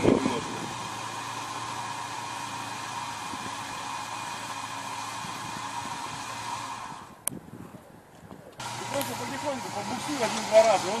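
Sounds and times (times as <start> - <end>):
vehicle engine running under load: 0.0 - 7.3, 8.6 - 11.0.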